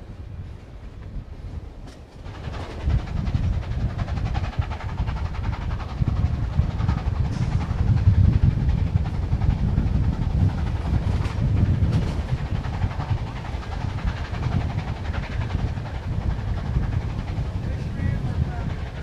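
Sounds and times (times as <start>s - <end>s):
train rumbling on rails: 0.0s - 19.0s
wind buffeting microphone: 0.0s - 19.0s.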